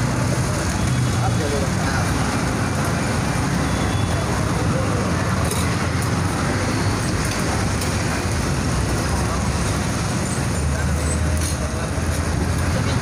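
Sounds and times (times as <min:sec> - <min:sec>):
roadside traffic noise: 0:00.0 - 0:13.0.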